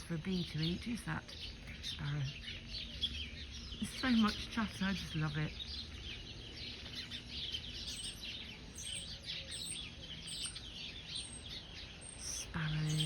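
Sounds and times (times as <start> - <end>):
flock of birds chattering: 0.0 - 13.0.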